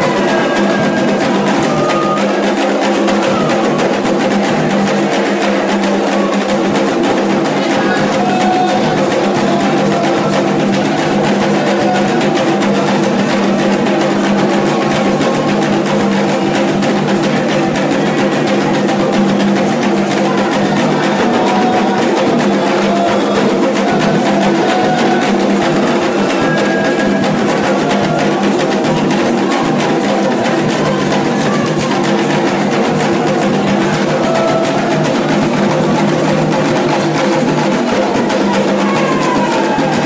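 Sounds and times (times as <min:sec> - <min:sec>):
hand drums playing rhythm: 0:00.0 - 0:40.0.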